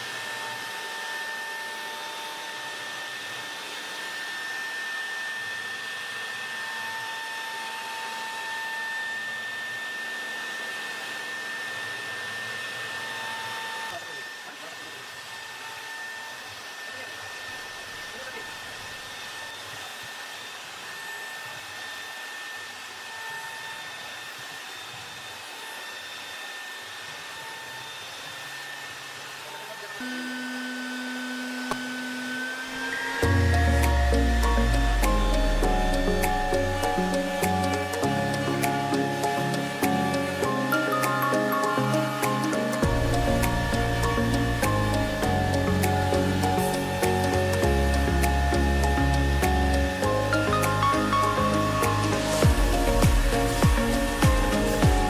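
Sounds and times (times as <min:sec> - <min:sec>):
cnc router carving wood: 0:00.0 - 0:55.0.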